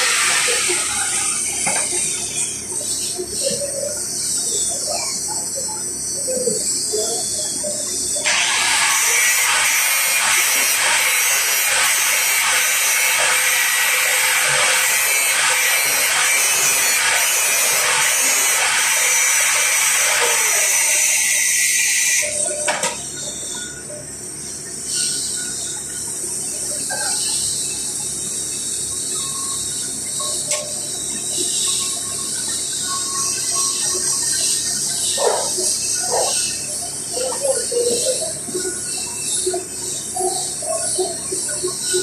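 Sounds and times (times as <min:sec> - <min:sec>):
arc welding crackling hiss: 0:00.0 - 0:04.6, 0:07.9 - 0:42.0.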